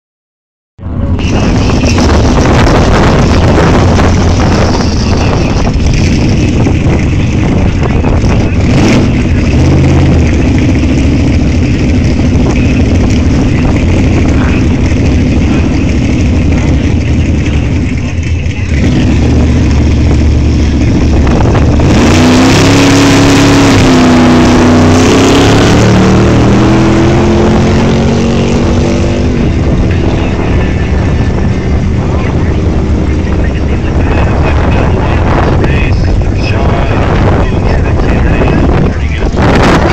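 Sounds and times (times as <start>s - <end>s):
drag racing car engines rumbling: 0.8s - 39.9s.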